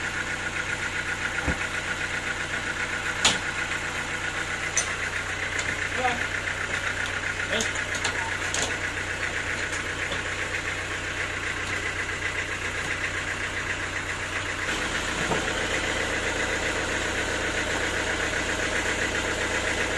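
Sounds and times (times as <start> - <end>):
sawmill machinery pulsing: 0.0 - 19.9.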